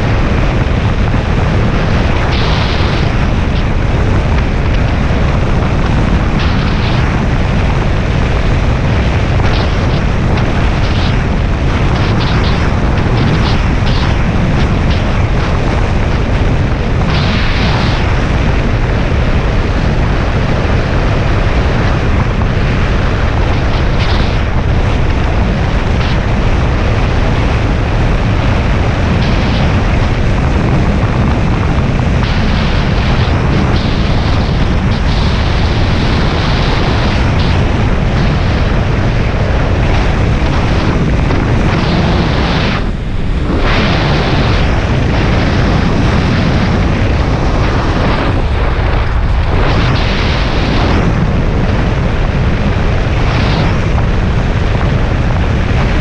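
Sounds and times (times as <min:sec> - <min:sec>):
motorcycle running: 0:00.0 - 0:56.0
wind rush on microphone: 0:00.0 - 0:56.0.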